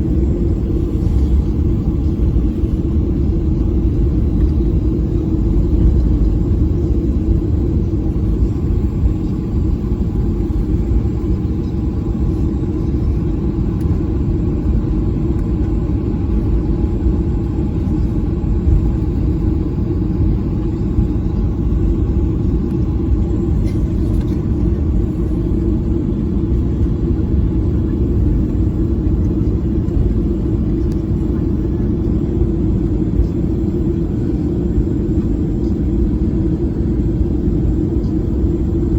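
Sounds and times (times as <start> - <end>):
jet engine rumble inside cabin: 0.0 - 38.9.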